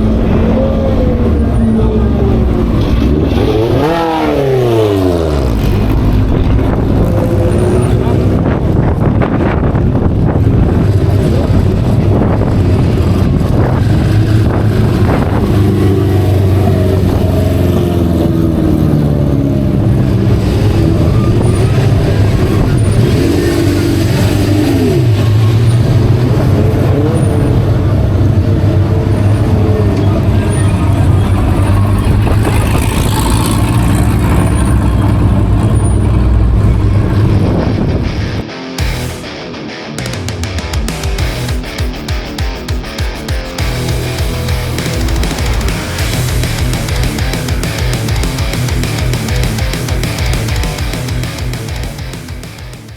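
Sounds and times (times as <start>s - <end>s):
racing car engine revving: 0.0s - 52.9s.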